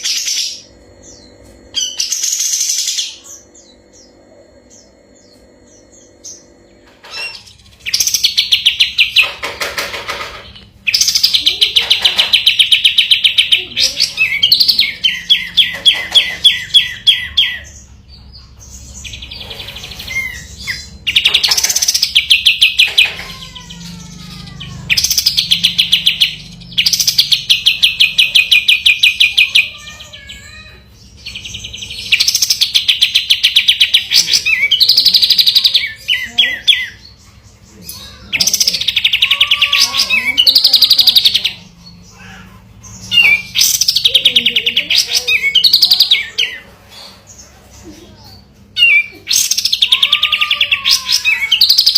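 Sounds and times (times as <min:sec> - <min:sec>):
bird singing rolling trills: 0:00.0 - 0:51.9.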